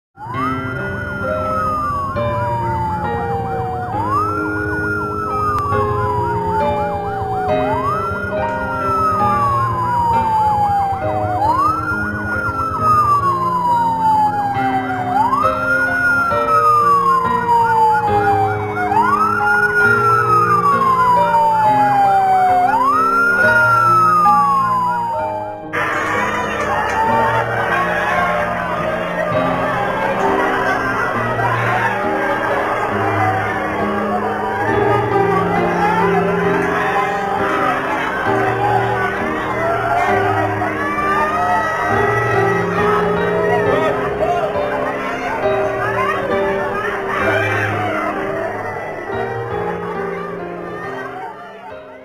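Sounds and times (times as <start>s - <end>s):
ambulance siren wailing: 0.2s - 52.0s
background music sustained notes: 0.2s - 52.0s.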